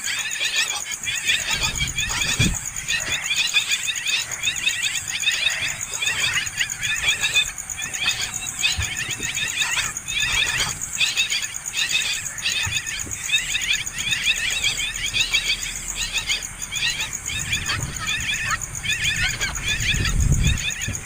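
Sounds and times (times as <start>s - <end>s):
nestling birds chirping: 0.0s - 21.0s.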